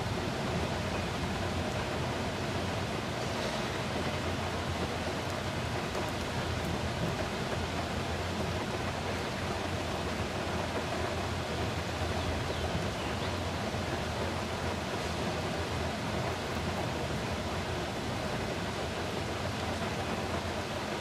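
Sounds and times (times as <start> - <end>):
freight train rolling past: 0.0 - 21.0
rain: 0.0 - 21.0.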